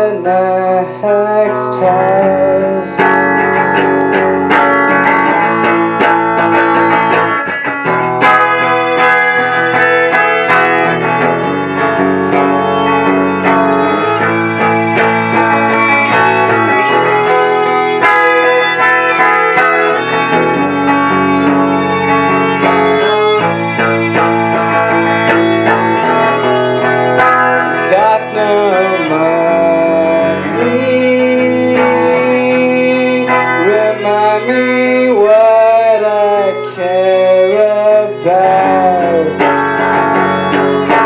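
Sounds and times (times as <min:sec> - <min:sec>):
electric guitars: 0:00.0 - 0:41.0
live rock band playing: 0:00.0 - 0:41.0.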